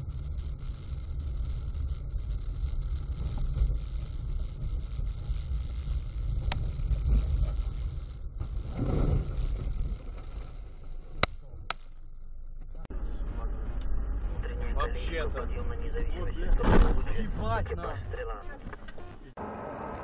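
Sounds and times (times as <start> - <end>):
car interior driving drone: 0.0 - 20.0.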